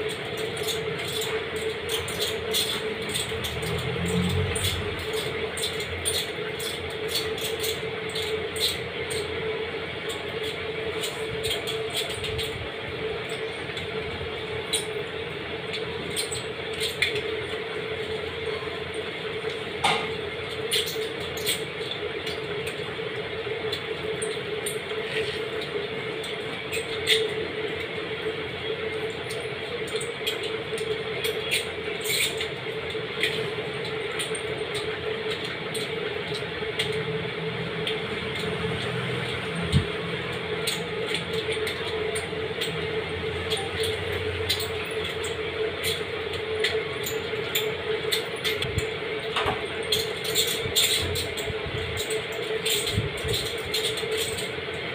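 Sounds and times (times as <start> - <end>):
utensils clicking on a plate: 0.0 - 18.2, 19.4 - 37.1, 37.7 - 54.9.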